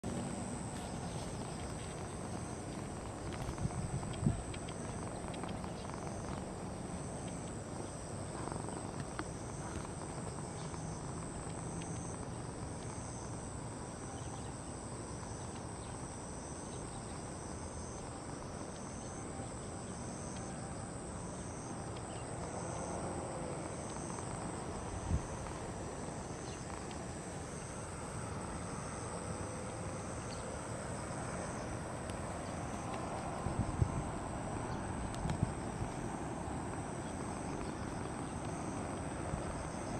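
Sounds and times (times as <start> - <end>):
insect high-pitched trill: 0.1 - 39.9
insect pulsing chirp: 0.1 - 39.9.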